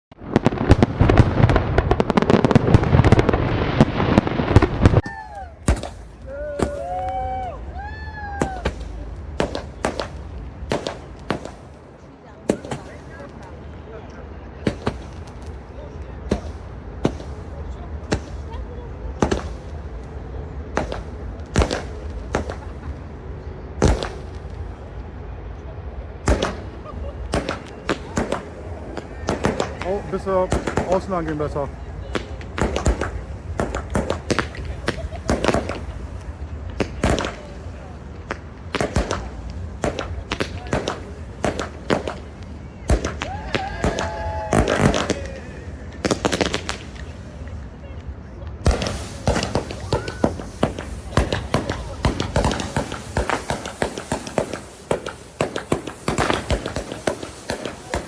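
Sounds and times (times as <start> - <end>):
fireworks bangs and crackle: 0.1 - 58.0
steady low rumble: 0.2 - 57.4.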